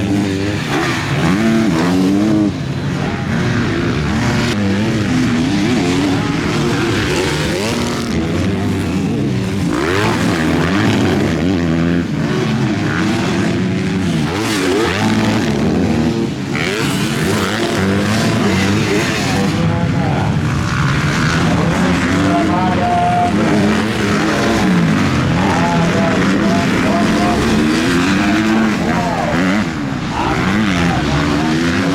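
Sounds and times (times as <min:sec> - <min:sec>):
motocross bike engines revving: 0:00.0 - 0:31.9.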